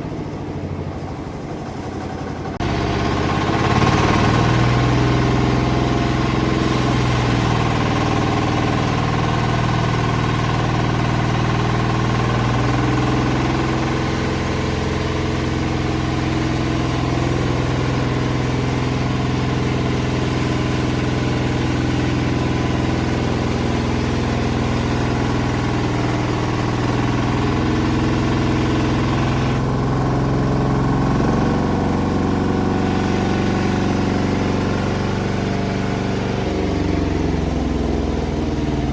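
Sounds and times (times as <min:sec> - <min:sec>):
band sawmill sawing log: 0:02.6 - 0:38.9.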